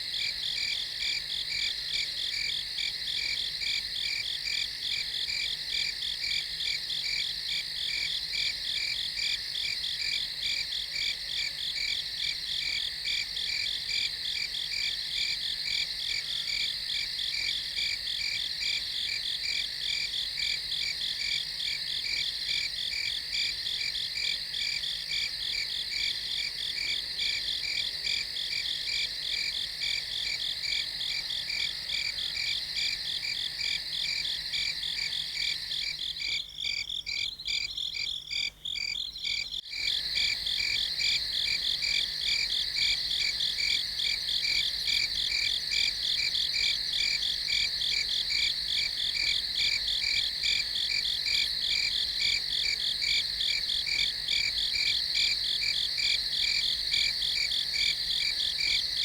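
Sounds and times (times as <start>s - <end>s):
crickets chirping: 0.1s - 59.0s.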